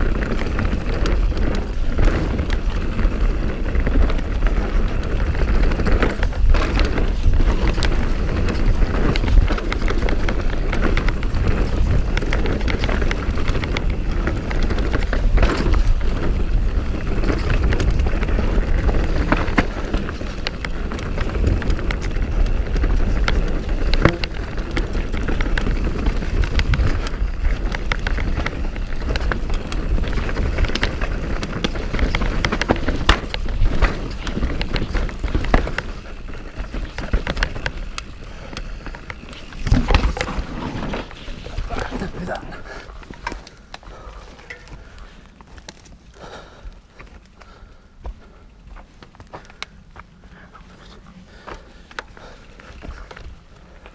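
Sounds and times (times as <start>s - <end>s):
bike chain and frame rattling: 0.0s - 53.9s
bike tyres skittering over roots: 0.0s - 53.9s.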